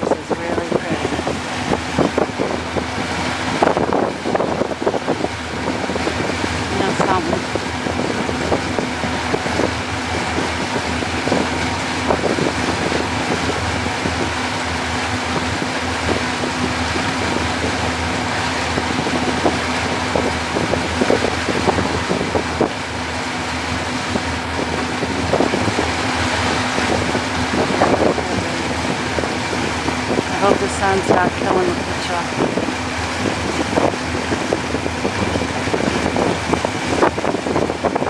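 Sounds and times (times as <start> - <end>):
motorboat engine hum: 0.0 - 38.0
wind and water rushing: 0.0 - 38.0
wind buffets: 0.0 - 38.0.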